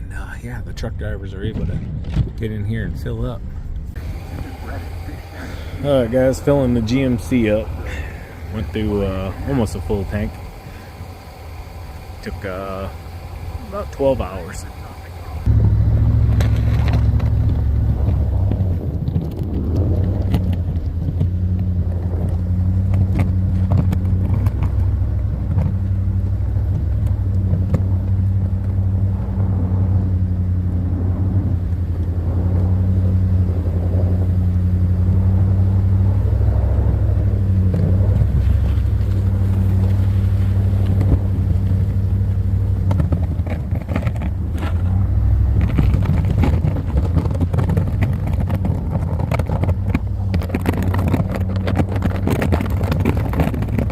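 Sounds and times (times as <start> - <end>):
pickup truck engine drone: 0.0 - 53.9.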